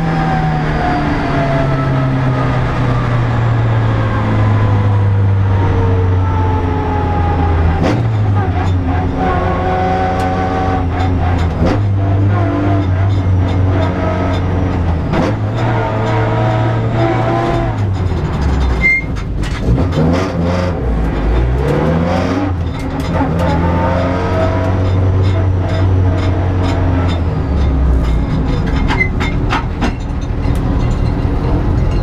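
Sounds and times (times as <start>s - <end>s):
car engine at hard throttle: 0.0s - 32.0s.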